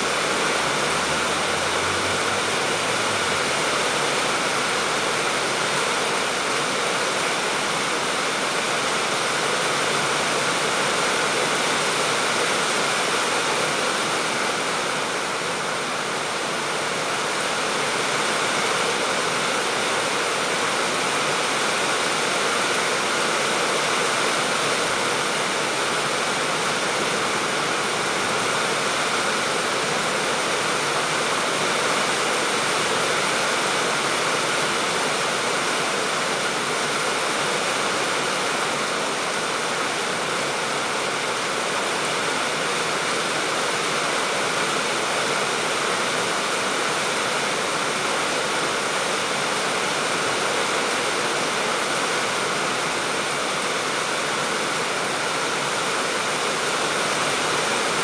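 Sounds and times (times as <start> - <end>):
rain on roofs and trees: 0.0 - 58.0.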